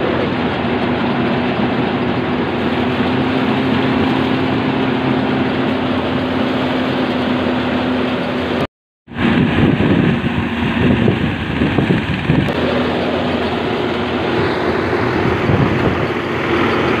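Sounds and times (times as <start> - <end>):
rice thresher humming: 0.0 - 17.0.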